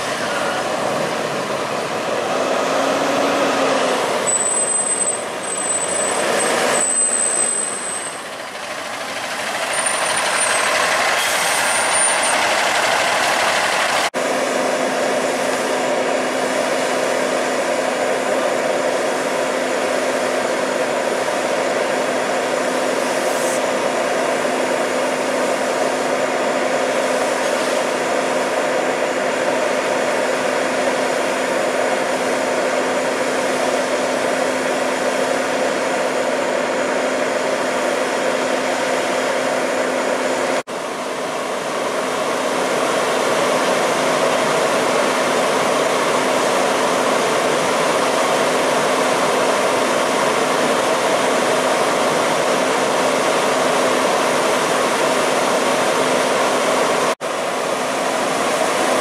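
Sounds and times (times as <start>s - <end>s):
fire engine pumps running: 3.8s - 59.0s.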